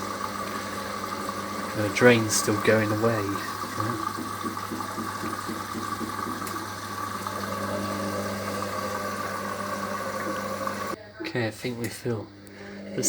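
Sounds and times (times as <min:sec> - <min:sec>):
washing machine drain pump humming: 0:00.0 - 0:13.0.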